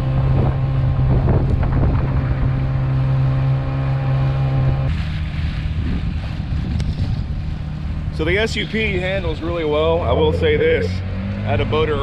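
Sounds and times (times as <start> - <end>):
outboard engine running: 0.0 - 12.0.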